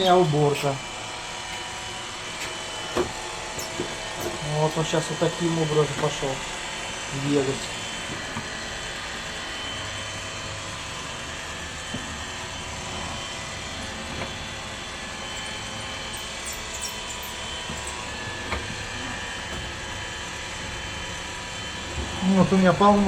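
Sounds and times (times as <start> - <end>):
robot vacuum whirring: 0.0 - 23.0.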